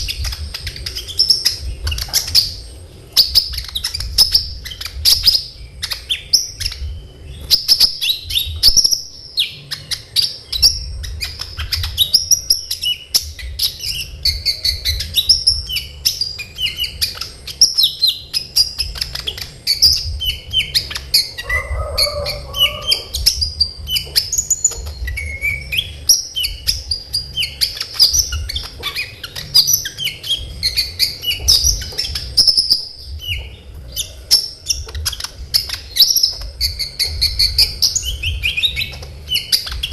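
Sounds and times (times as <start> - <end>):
sunbird singing chirps and trills: 0.0 - 39.9.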